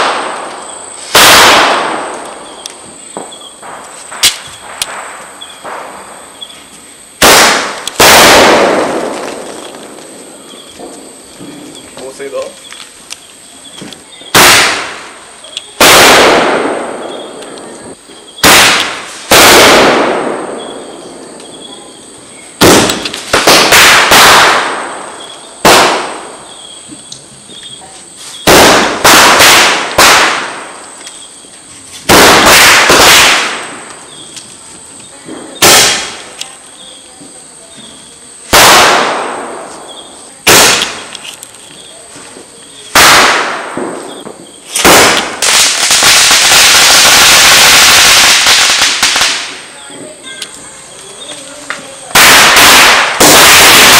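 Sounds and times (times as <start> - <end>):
firecrackers banging with echo: 0.0 - 13.2, 13.8 - 27.4, 28.2 - 53.9.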